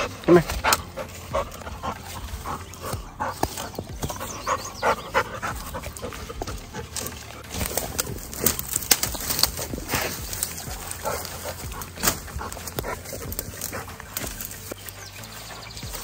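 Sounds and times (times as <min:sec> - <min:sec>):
dog panting: 0:00.0 - 0:08.6, 0:09.5 - 0:16.0.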